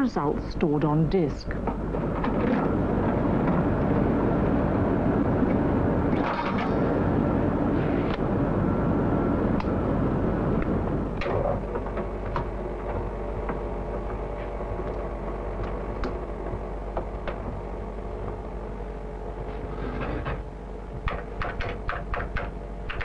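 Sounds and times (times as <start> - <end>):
disk drive machine noise: 0.0 - 23.0
quiet steady hum: 0.0 - 23.0.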